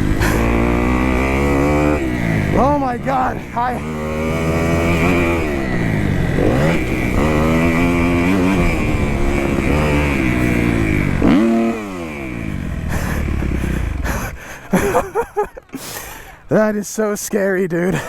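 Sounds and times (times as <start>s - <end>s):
motorcycle engine revving: 0.0s - 15.7s.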